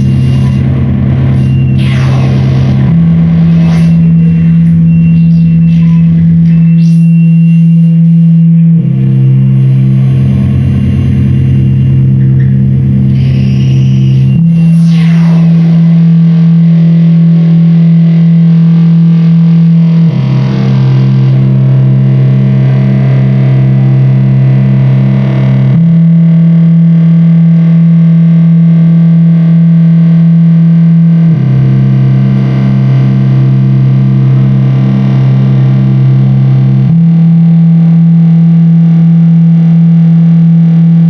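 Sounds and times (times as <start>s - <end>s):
distorted low drone music: 0.0s - 41.0s.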